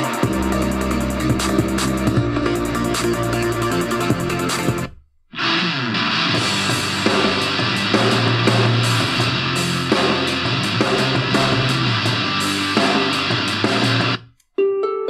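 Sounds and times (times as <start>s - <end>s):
hard rock music: 0.0s - 14.3s.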